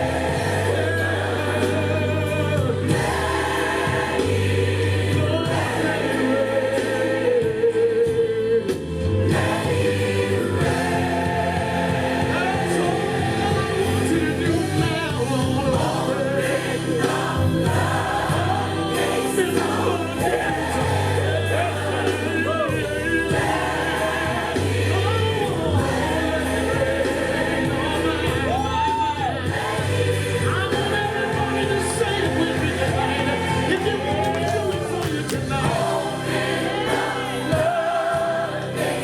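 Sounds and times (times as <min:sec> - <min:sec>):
gospel choir singing: 0:00.0 - 0:39.0.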